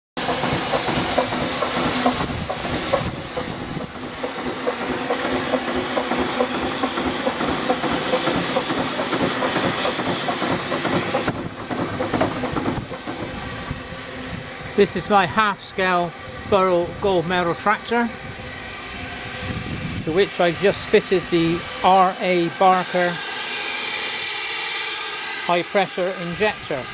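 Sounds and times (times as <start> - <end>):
steam hissing: 0.2 - 26.9.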